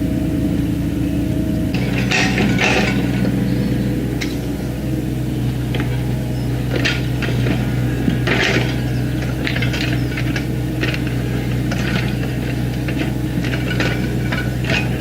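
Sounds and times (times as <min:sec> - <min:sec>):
excavator engine running: 0:00.0 - 0:15.0
metallic clanking and squeaking: 0:00.0 - 0:15.0.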